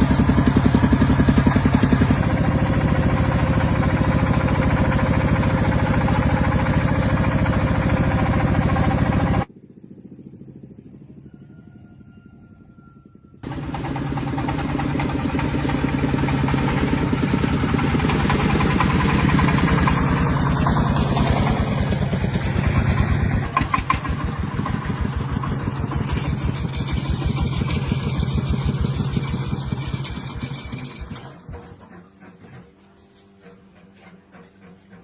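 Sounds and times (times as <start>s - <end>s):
tractor engine running: 0.0s - 11.0s, 13.4s - 35.0s.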